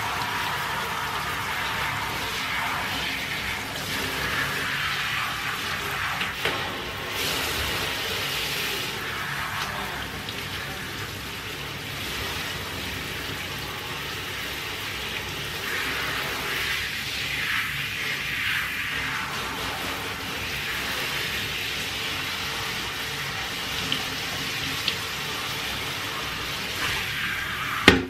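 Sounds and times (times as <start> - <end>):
shower spraying water: 0.0 - 28.0.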